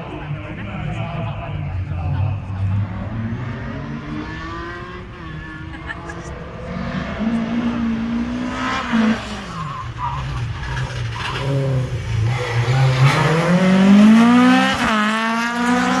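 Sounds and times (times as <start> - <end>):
rally car engine accelerating: 0.0 - 16.0.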